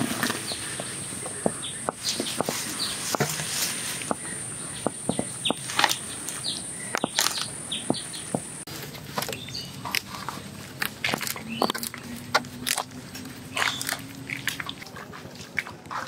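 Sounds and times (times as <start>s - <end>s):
hands digging dry soil: 0.0s - 16.0s.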